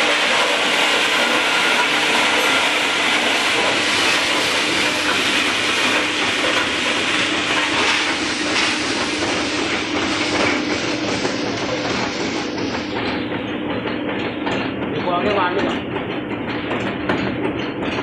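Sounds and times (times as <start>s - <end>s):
pellet machine running with hiss: 0.0s - 18.0s.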